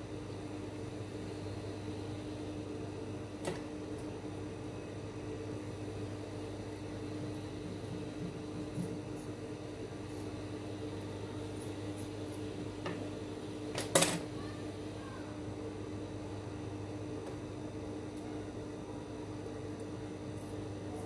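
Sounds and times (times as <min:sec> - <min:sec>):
electric hum with low drone: 0:00.0 - 0:21.0.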